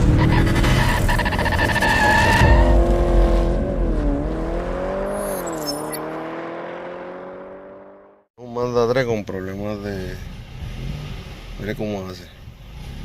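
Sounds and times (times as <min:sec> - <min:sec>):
race car engine revving: 0:00.0 - 0:08.3, 0:10.2 - 0:13.0.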